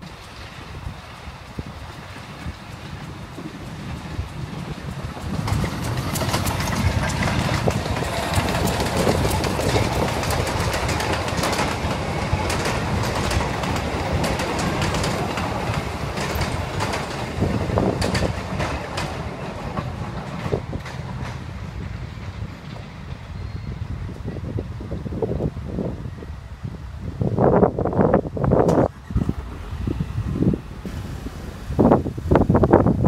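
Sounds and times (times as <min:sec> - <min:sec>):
wheels clacking over rail joints: 0:00.0 - 0:24.2, 0:28.4 - 0:31.6
train carriages rolling: 0:00.0 - 0:26.5, 0:27.2 - 0:33.0.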